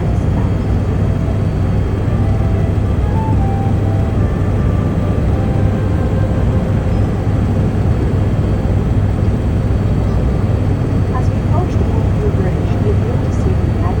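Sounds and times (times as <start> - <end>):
helicopter turbine and rotors droning: 0.0 - 14.0.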